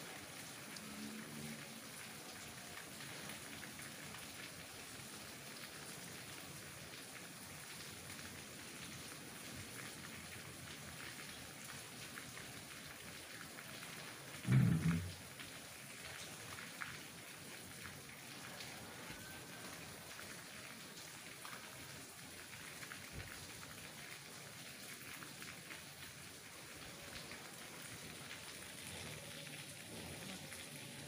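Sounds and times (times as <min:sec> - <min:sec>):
steady rain through trees: 0:00.0 - 0:31.0.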